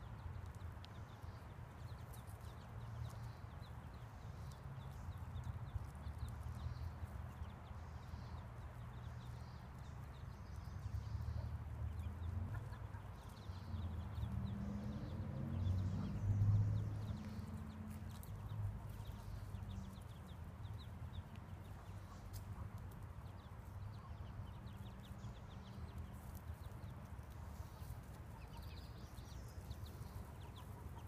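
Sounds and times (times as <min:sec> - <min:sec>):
ducklings peeping: 0:00.0 - 0:31.0.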